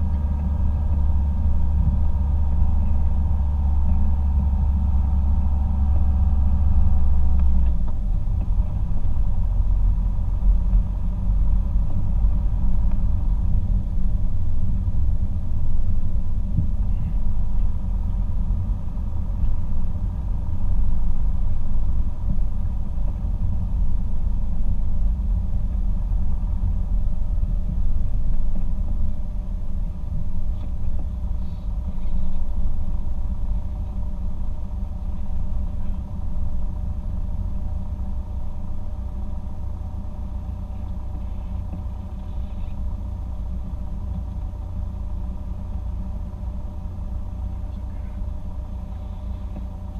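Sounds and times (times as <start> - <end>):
car engine and tyre rumble: 0.0 - 49.9
low hum: 0.0 - 49.9.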